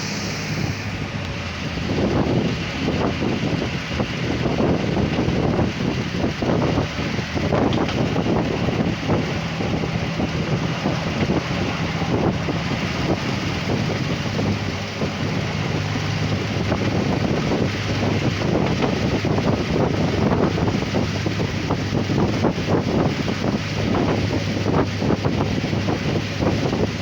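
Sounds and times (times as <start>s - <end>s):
diesel engine drone: 0.0s - 27.0s
rumbling train wheels: 0.0s - 27.0s
wind buffeting microphone: 0.0s - 27.0s.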